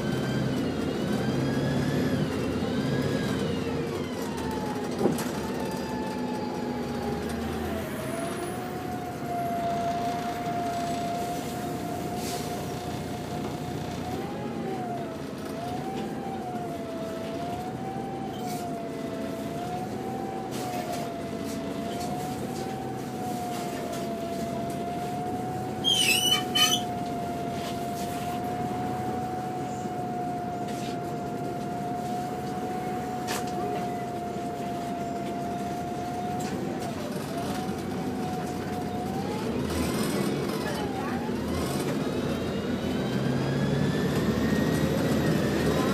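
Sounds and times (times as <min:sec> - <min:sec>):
bus engine and gearbox whine: 0:00.0 - 0:45.9.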